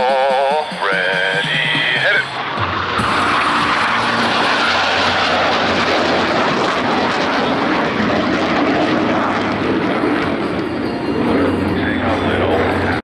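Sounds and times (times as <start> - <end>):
jet aircraft noise: 0.0 - 13.0.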